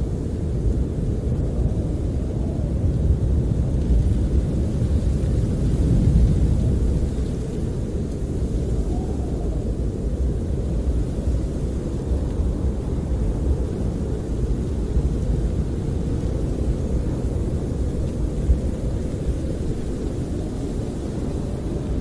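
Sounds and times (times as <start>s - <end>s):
wind buffeting a camper: 0.0s - 22.0s.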